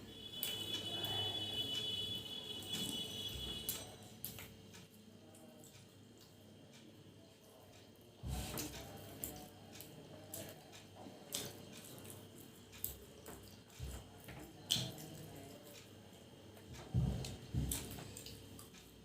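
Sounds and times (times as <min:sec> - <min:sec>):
soft wet eating clicks: 0:03.6 - 0:19.0.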